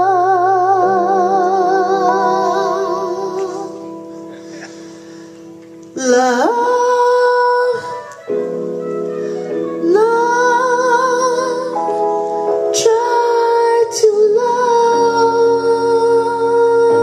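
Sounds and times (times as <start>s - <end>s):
woman singing with vibrato: 0.0s - 4.1s, 5.9s - 17.0s.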